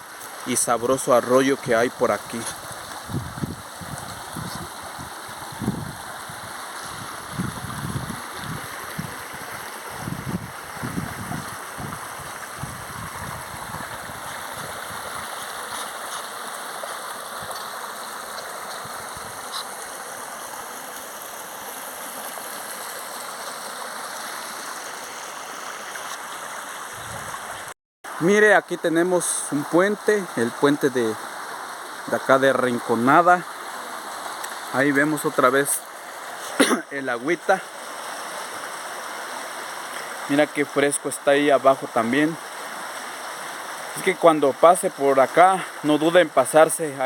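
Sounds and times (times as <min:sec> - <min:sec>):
creek water flowing over rocks: 0:00.0 - 0:47.0.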